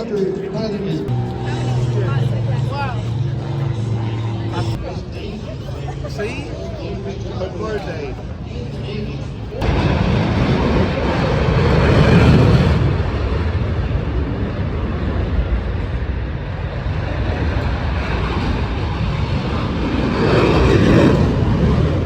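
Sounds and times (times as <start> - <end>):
aircraft engine rushing: 0.0 - 22.0.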